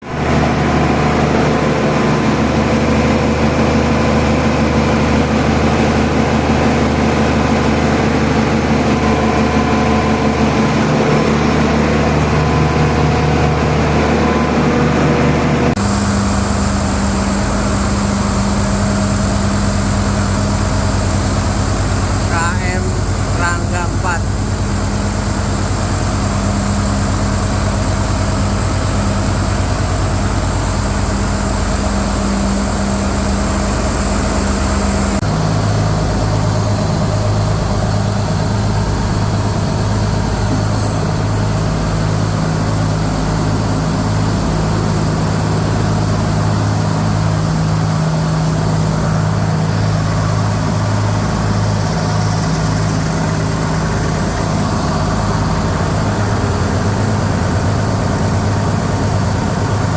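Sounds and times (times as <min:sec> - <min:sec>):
compressor machinery hum: 0:00.0 - 0:59.9.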